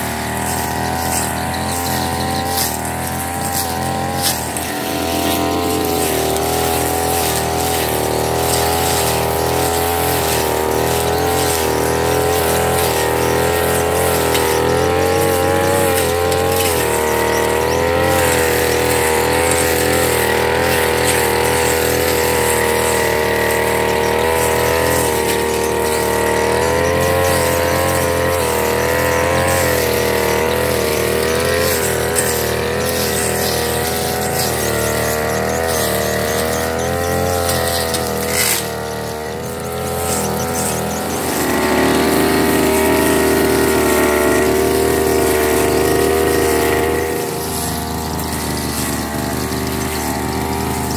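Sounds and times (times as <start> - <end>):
brush cutter engine running: 0.0 - 50.9.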